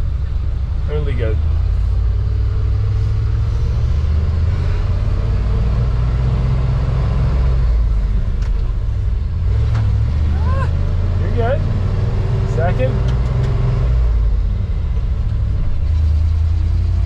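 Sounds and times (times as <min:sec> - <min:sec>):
truck engine rumbling under load: 0:00.0 - 0:17.0.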